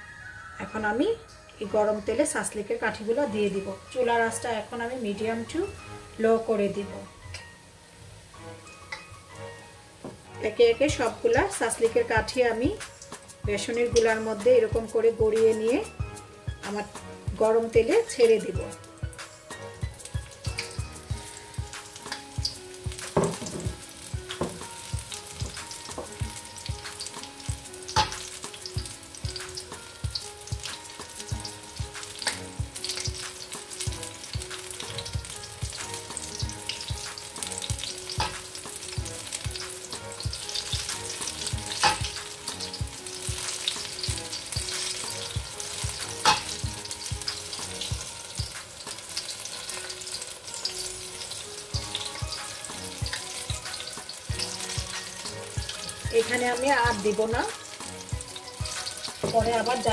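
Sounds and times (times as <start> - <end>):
food deep-frying in oil: 0.1 - 59.9.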